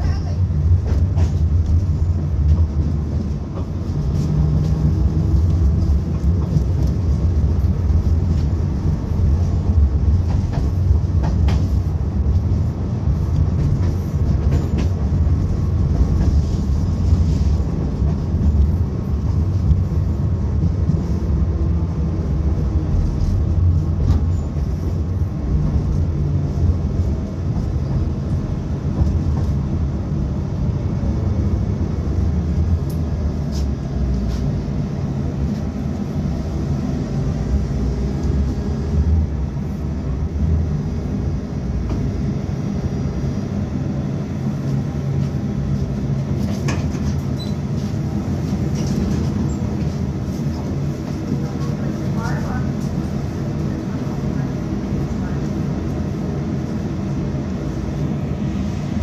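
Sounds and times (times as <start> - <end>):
tram wheels rumbling: 0.0 - 59.0.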